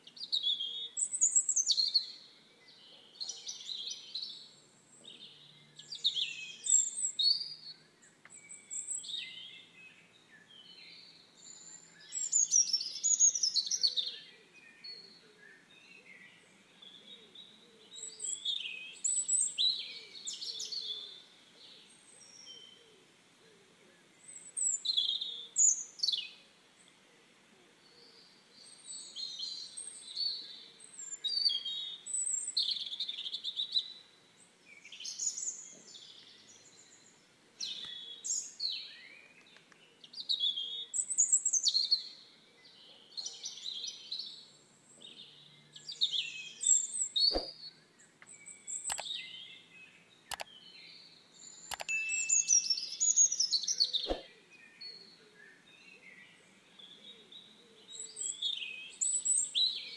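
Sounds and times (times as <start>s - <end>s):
small birds singing: 0.0s - 59.9s.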